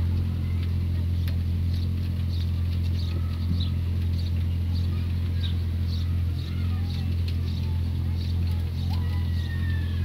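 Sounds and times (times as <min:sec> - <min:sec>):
loud low hum: 0:00.0 - 0:10.0.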